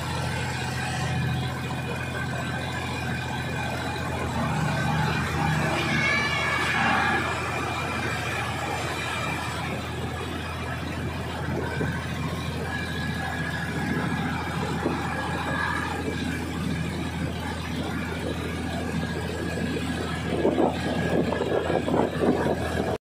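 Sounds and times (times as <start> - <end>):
rail and carriage noise: 0.0 - 23.0
train engine hum: 0.0 - 23.0.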